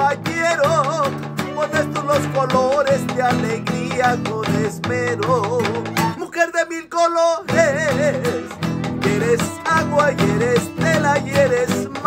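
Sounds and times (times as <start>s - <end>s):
acoustic guitar: 0.0s - 12.0s.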